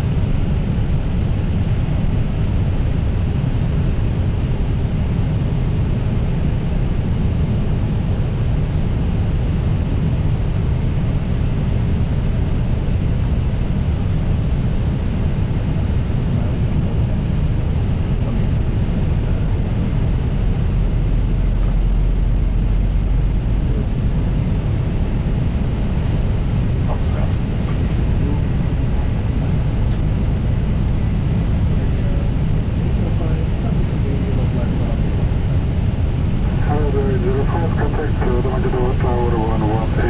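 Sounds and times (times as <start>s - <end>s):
aircraft cockpit low rumble: 0.0s - 40.0s.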